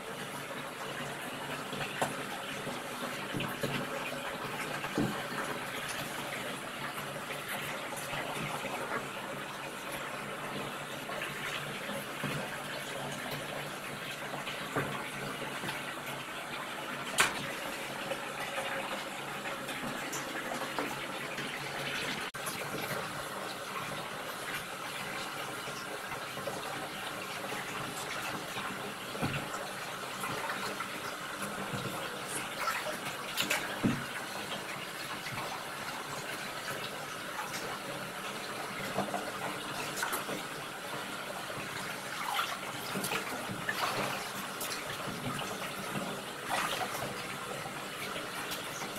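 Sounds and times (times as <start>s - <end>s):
water gushing into bathtub: 0.0s - 48.9s.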